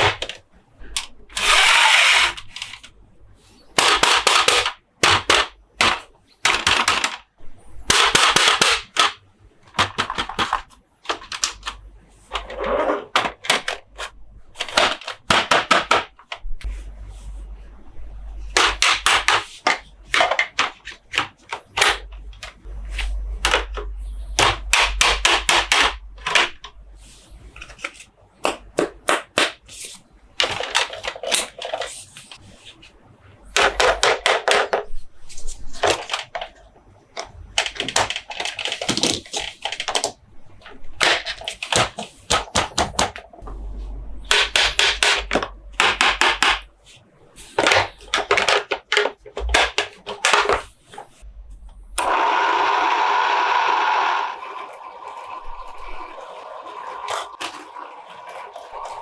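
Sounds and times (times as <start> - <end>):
plastic toys tapping and clicking: 0.0 - 2.9, 3.8 - 16.8, 18.5 - 32.8, 33.5 - 43.6, 44.2 - 51.2.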